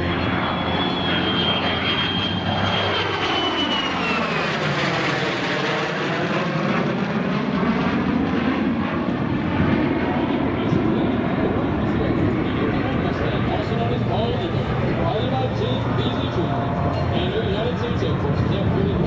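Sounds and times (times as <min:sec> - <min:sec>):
aircraft engines flying past: 0:00.0 - 0:19.0
high jet whine: 0:00.0 - 0:19.0.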